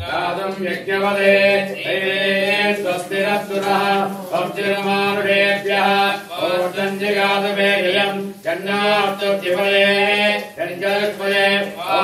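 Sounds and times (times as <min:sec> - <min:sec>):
men chanting mantras: 0:00.0 - 0:12.0.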